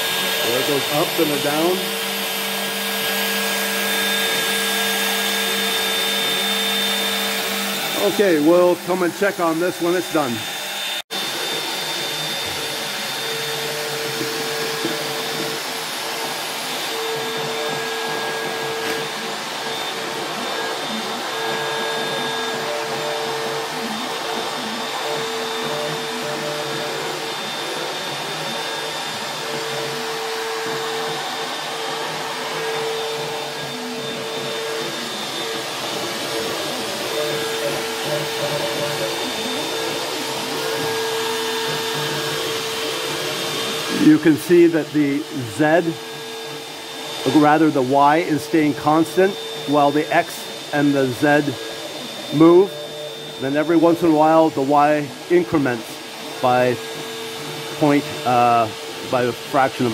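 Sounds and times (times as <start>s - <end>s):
router motor whine: 0.0s - 59.9s.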